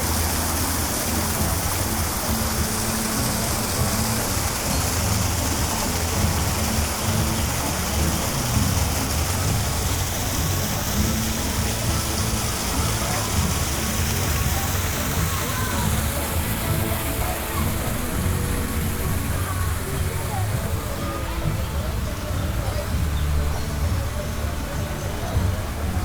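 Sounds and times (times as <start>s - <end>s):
faint background music: 0.0s - 26.0s
steady rushing noise: 0.0s - 26.0s.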